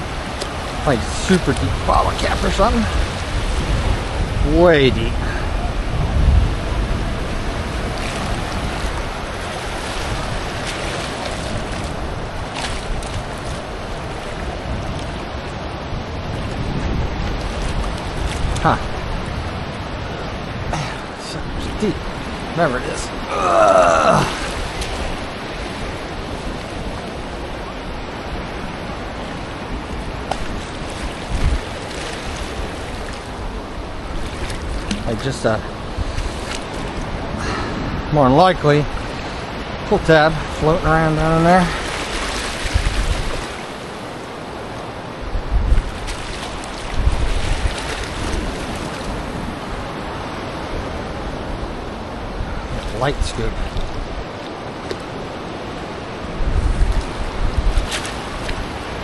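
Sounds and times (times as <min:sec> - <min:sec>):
ocean surf washing: 0:00.0 - 0:59.0
wind buffeting microphone: 0:00.0 - 0:59.0.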